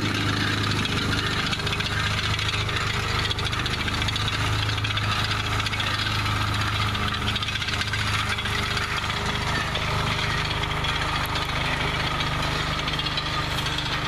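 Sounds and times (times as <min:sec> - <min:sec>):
engine running: 0:00.0 - 0:14.0
fast mechanical rattle: 0:00.0 - 0:14.0.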